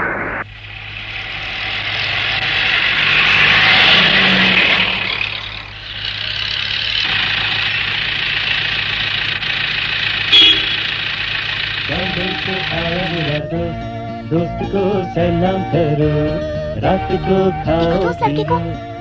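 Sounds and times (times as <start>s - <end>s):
road noise: 0.0s - 19.0s
bus engine running: 0.4s - 19.0s.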